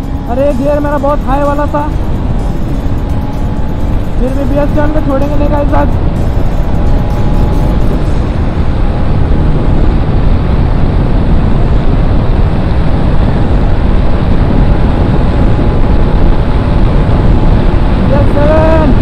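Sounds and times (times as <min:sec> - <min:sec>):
motorcycle engine: 0:00.0 - 0:19.0
wind blast on microphone: 0:00.0 - 0:19.0.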